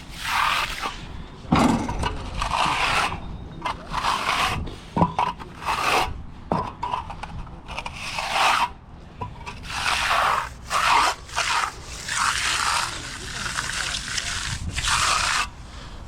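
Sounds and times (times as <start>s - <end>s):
rough scraping on concrete: 0.0s - 15.9s.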